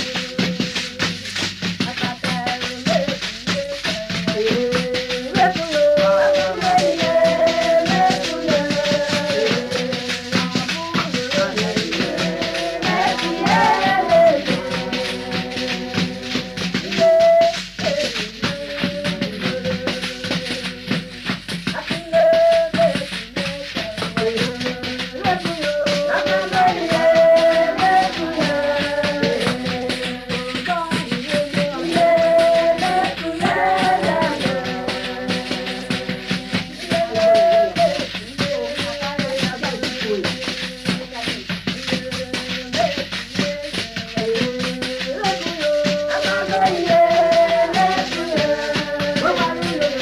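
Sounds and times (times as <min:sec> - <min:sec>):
shaker rattle beat: 0:00.0 - 0:50.0.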